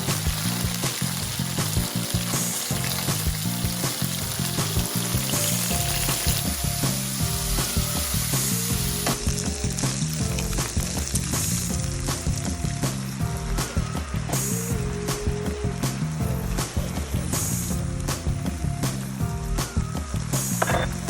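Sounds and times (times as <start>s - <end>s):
food sizzling in a pan: 0.0s - 18.2s
background music: 0.0s - 21.0s.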